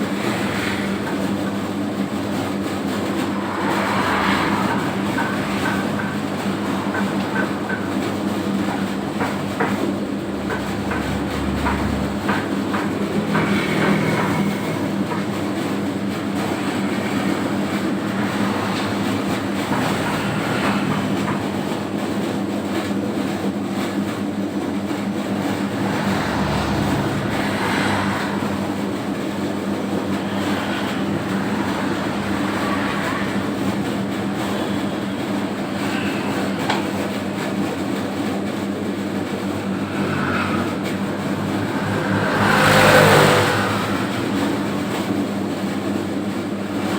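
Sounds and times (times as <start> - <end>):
rhythmic mechanical clatter: 0.0 - 46.9.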